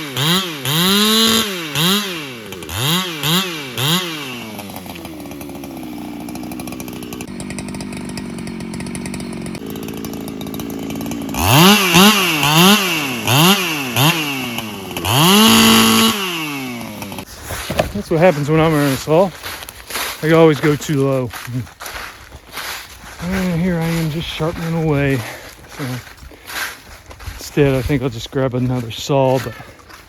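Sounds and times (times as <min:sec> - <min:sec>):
chainsaw revving and idling: 0:00.0 - 0:30.0.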